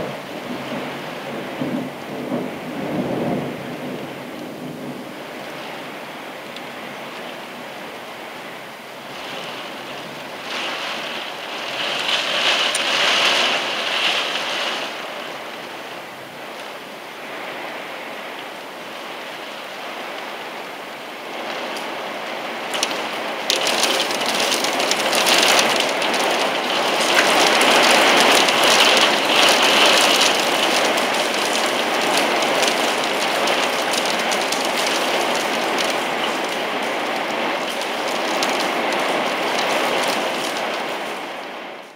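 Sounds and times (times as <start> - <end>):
gusty wind: 0.0 - 41.9
heavy rain pouring: 0.0 - 41.9.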